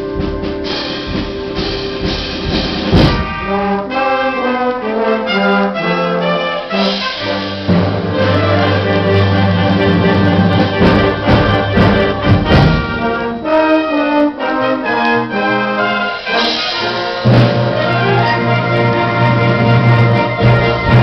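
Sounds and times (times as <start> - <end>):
concert band playing: 0.0 - 21.0.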